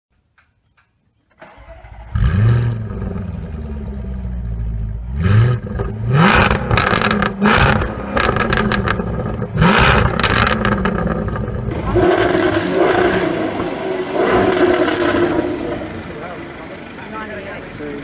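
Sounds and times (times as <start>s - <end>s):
car engine starting and idling: 1.3s - 18.0s
engine throttle blips: 1.3s - 18.0s
exhaust crackles and pops: 2.5s - 18.0s.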